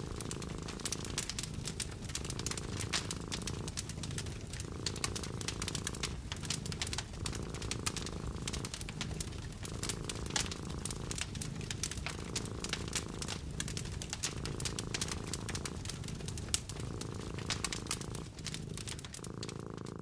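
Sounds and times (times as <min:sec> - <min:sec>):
cat purring: 0:00.0 - 0:20.0
wood fire crackling and popping: 0:00.0 - 0:20.0.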